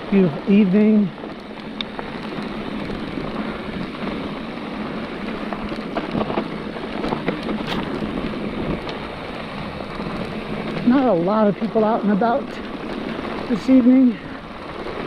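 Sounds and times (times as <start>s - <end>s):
low motor hum: 0.0s - 15.0s
tyre and wind noise: 0.0s - 15.0s.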